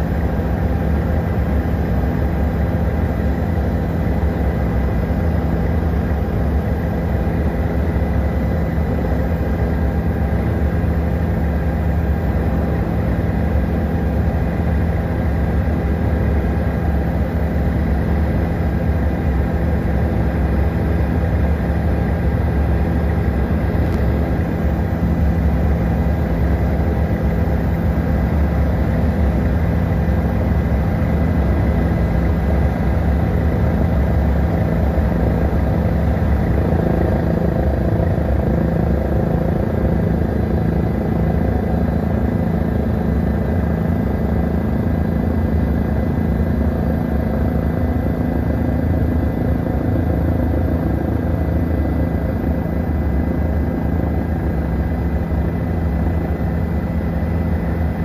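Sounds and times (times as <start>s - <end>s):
faint steady whine: 0.0s - 58.0s
helicopter rotor and engine: 0.0s - 58.0s.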